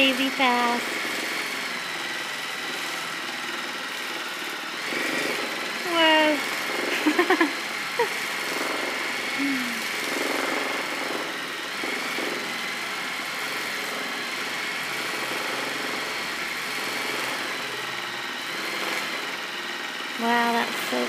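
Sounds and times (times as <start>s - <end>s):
sewing machine running fast: 0.0s - 21.0s.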